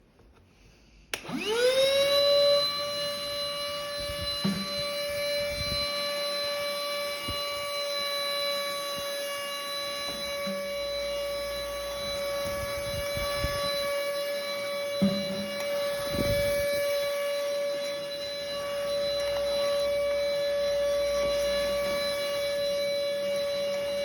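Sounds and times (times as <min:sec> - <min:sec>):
vacuum cleaner motor whine: 0:01.1 - 0:24.0.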